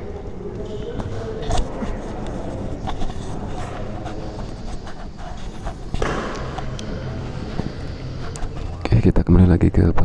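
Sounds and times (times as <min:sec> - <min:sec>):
low hall rumble: 0:00.0 - 0:09.7
faint chatter: 0:00.0 - 0:10.0.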